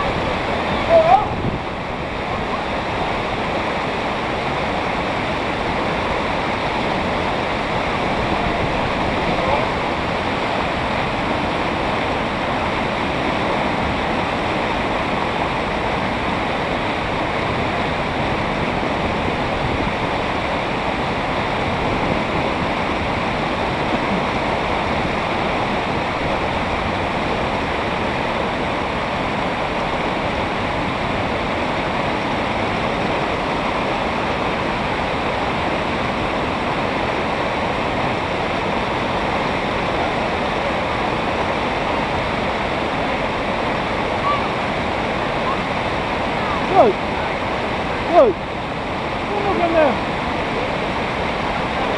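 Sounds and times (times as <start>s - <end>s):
water rushing over weir: 0.0s - 51.9s.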